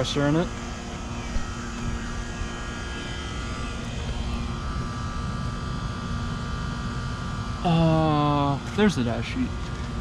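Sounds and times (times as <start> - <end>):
air conditioner fan whoosh: 0.0 - 10.0
compressor hum: 0.0 - 10.0.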